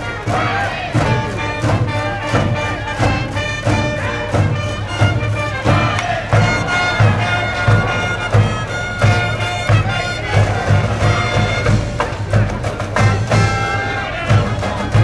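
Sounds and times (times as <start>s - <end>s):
bass drum beat: 0.0s - 15.0s
brass melody: 0.0s - 15.0s.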